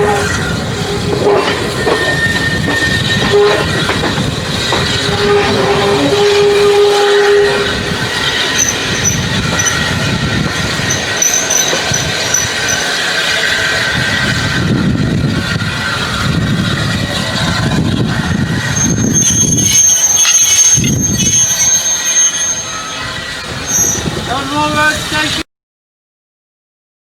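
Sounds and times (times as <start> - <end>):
train rolling rumble: 0.0 - 25.4
train wheels squealing: 0.0 - 25.4.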